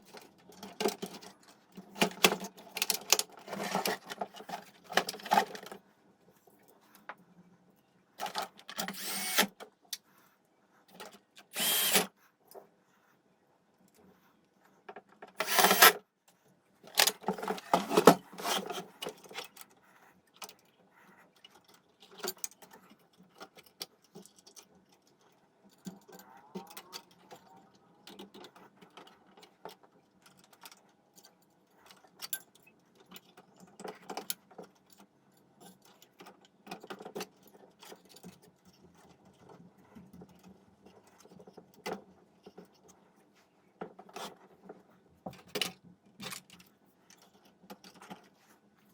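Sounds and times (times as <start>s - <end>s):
small hard parts clicking and rattling: 0.0s - 5.9s, 8.2s - 9.8s, 10.9s - 12.6s, 14.8s - 16.0s, 16.8s - 43.0s, 43.8s - 48.9s.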